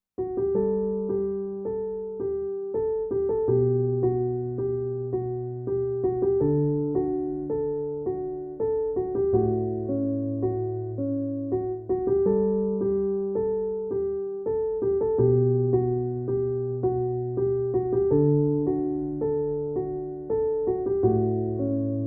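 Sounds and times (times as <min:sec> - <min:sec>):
electric piano playing: 0:00.2 - 0:22.0.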